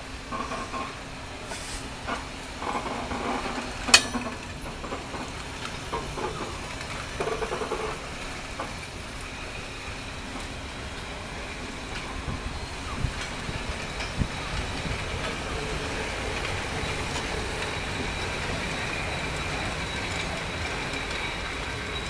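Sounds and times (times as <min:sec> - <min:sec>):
train moving on track: 0:00.0 - 0:22.0.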